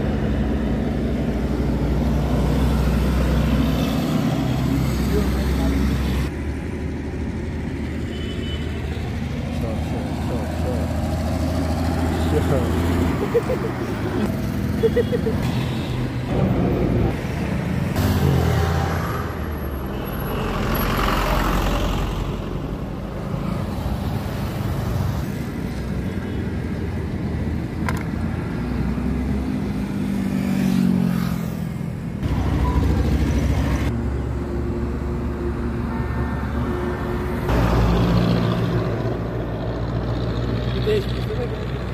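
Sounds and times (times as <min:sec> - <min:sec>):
road traffic engines: 0:00.0 - 0:41.9.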